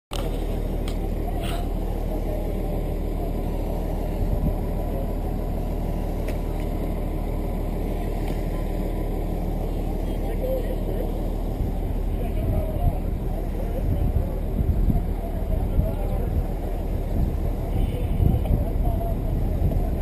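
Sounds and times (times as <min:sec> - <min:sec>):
fire engine engine humming: 0:00.1 - 0:20.0.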